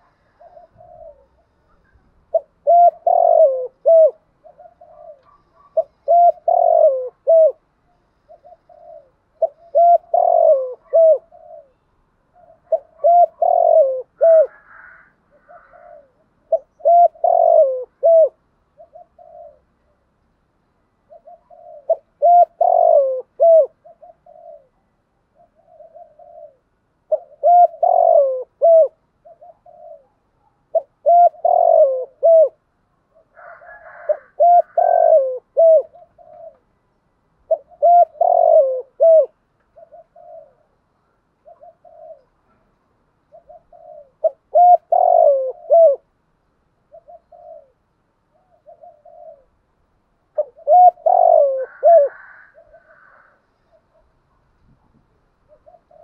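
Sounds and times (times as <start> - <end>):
dove cooing: 0.0 - 20.2, 21.0 - 36.7, 37.4 - 46.2, 46.8 - 54.3, 54.9 - 56.0.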